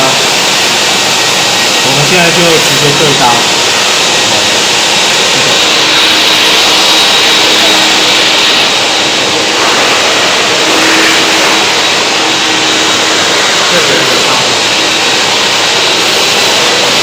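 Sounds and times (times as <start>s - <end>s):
workshop machinery whir: 0.0s - 17.0s.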